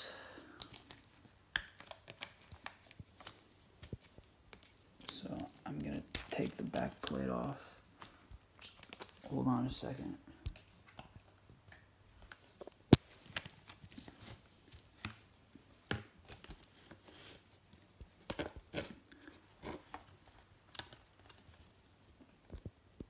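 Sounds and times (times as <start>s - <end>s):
hockey mask handling clicks and knocks: 0.6s - 9.3s, 10.3s - 21.7s.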